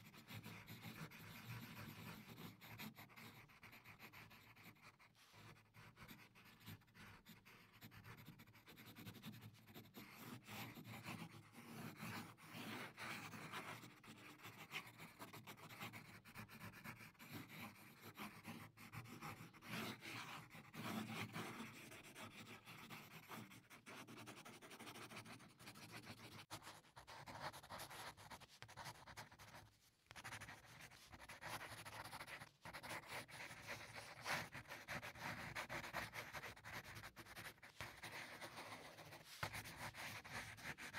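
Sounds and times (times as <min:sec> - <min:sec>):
pencil scratching on paper: 0:00.0 - 0:40.9.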